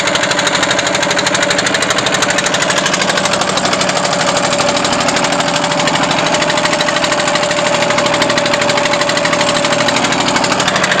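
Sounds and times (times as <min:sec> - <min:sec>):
small engine running steadily: 0:00.0 - 0:11.0.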